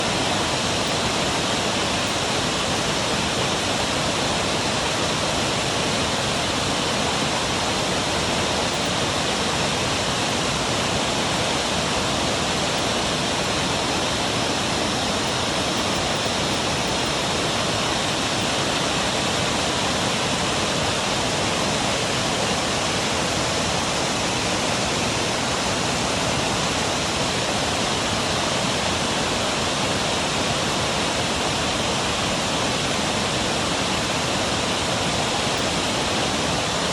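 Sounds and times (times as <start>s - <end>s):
waterfall roaring: 0.0s - 36.9s.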